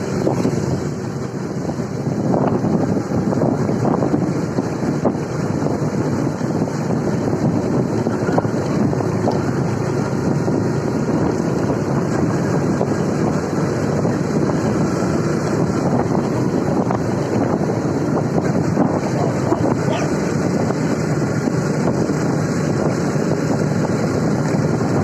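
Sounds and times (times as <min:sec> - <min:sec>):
motorcycle engine running: 0:00.0 - 0:25.0
wind rush on microphone: 0:00.0 - 0:25.0.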